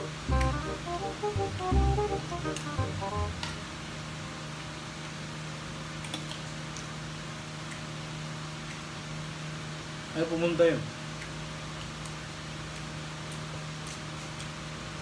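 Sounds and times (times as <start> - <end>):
appliance electrical hum and hiss: 0.0 - 15.0.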